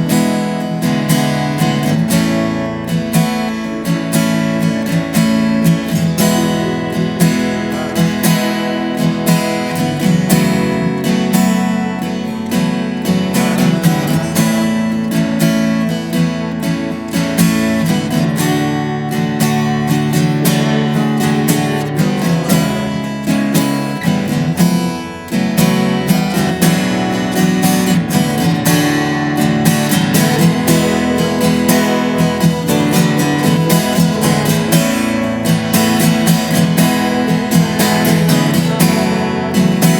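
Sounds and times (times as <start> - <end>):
acoustic guitar strumming chords: 0.0 - 39.9.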